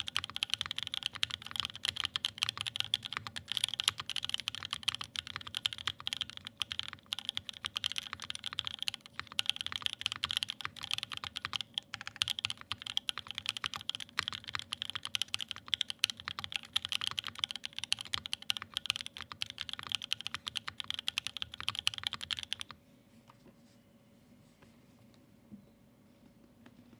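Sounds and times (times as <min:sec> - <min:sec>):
fast typing on mechanical keyboard: 0:00.0 - 0:22.8.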